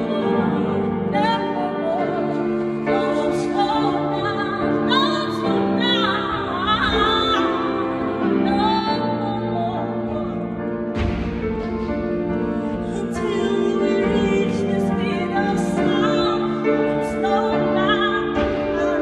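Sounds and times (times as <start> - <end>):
woman singing with vibrato: 0.0 - 10.9, 12.2 - 19.0
piano chords: 0.0 - 19.0.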